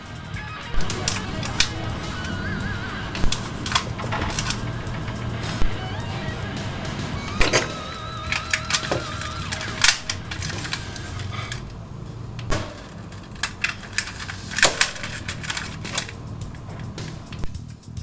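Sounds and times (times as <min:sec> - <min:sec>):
plastic toy parts clicking: 0:00.7 - 0:11.8, 0:12.4 - 0:17.6.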